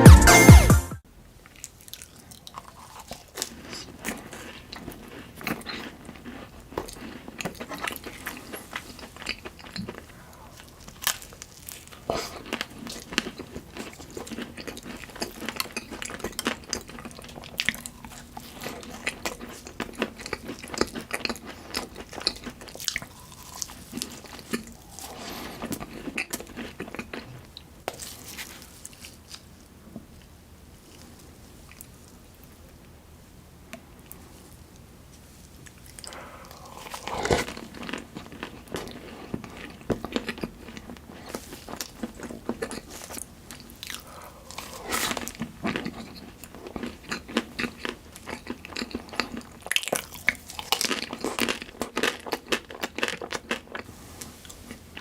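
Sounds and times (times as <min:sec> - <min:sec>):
crunchy bites and chewing: 0:01.5 - 0:29.7, 0:35.6 - 0:53.9.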